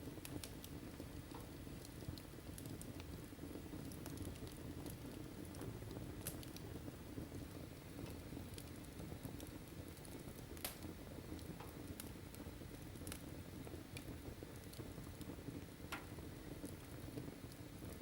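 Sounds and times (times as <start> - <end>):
fire crackles and pops: 0.0 - 18.0
fire flames rumbling: 0.0 - 18.0.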